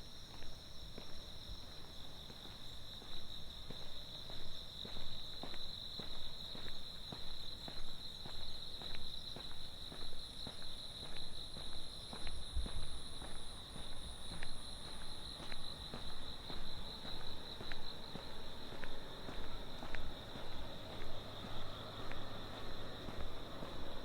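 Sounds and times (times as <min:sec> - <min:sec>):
night insects singing: 0:00.0 - 0:24.0
footsteps walking: 0:00.3 - 0:24.0.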